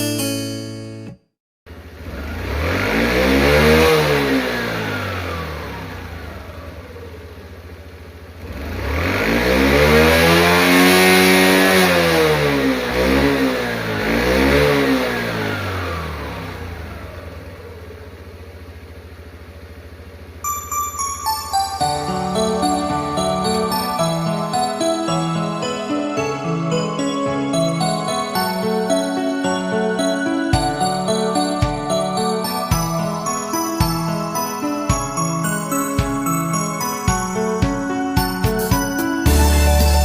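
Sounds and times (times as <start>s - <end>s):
small engine idling and revving: 1.7s - 40.0s.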